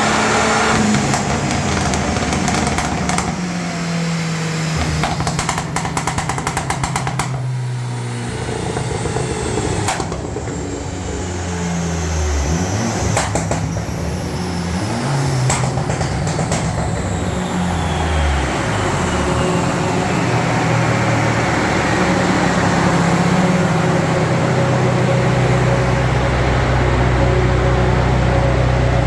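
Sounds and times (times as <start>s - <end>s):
exhaust crackles and pops: 0.0s - 27.2s
car engine revving: 0.0s - 29.0s.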